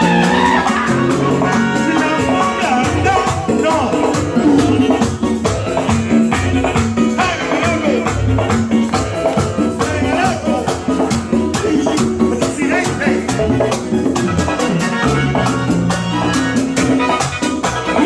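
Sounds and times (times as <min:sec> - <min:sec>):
band playing salsa music: 0:00.0 - 0:18.0.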